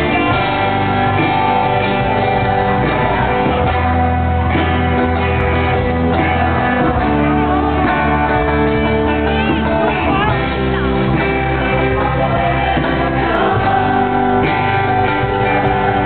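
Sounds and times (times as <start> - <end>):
live band with guitar: 0.0 - 16.0.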